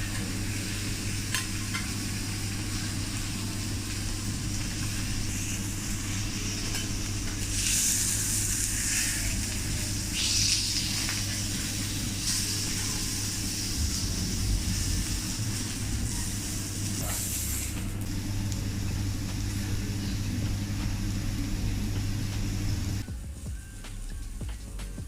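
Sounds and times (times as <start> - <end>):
food sizzling on a griddle: 0.0 - 23.0
steady low hum: 0.0 - 25.0.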